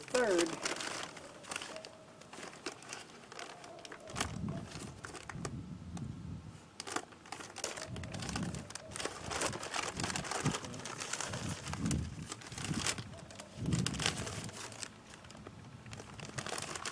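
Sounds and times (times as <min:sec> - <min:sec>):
newspaper rustling and crinkling: 0:00.0 - 0:05.6, 0:06.6 - 0:16.9.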